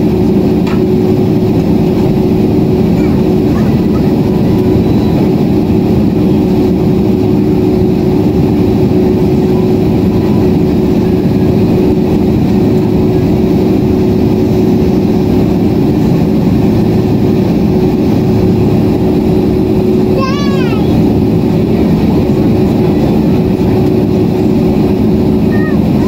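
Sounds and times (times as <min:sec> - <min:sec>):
air rushing along fuselage: 0:00.0 - 0:26.0
jet engines humming: 0:00.0 - 0:26.0.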